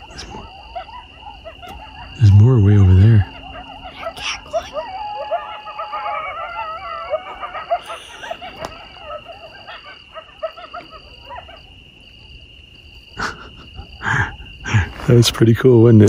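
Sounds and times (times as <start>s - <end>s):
coyotes howling and yipping: 0.0s - 16.0s
insect trill: 0.0s - 16.0s.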